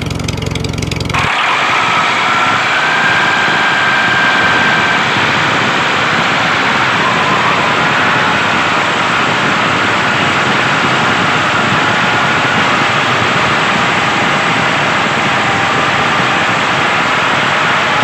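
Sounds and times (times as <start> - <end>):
toy gear motors whining: 1.2 - 18.0.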